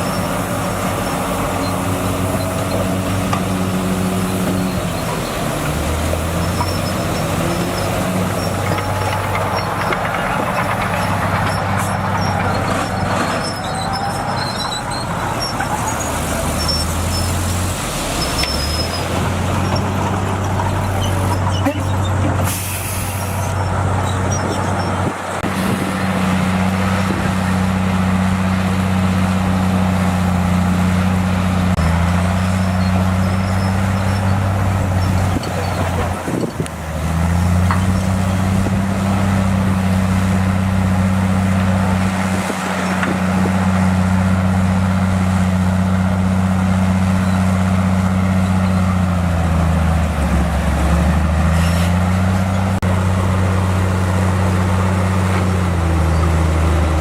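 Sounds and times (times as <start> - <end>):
bulldozer diesel engine running hard: 0.0 - 57.0.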